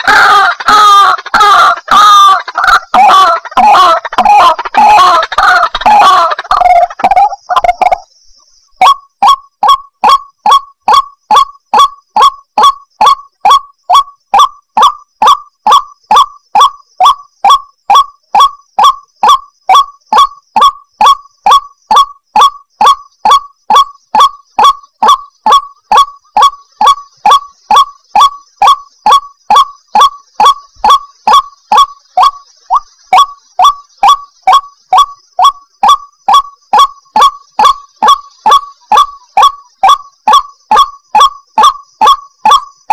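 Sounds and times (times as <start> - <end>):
waterhen calling harshly: 0.0 - 8.1, 8.8 - 42.6.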